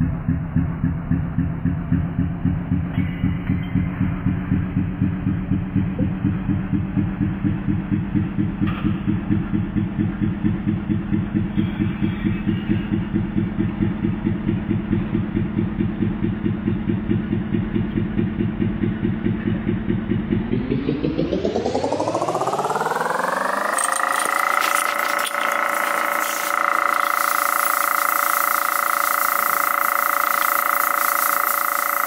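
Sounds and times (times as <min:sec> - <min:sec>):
engine idling and revving: 0:00.0 - 0:32.0.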